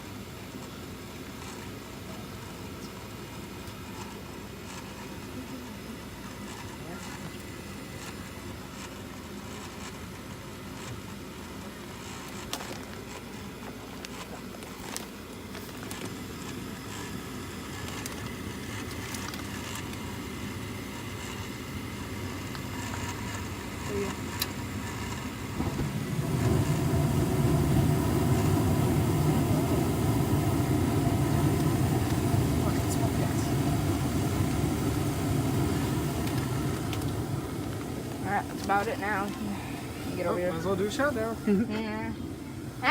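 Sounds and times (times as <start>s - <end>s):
blower running deep: 0.0s - 42.9s
furnace burner and fan noise: 0.0s - 42.9s.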